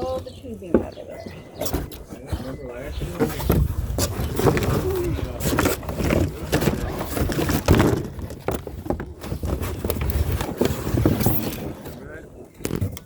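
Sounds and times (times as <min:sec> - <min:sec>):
box rustling: 0:01.5 - 0:13.0
plastic hose sections clattering: 0:01.6 - 0:13.0.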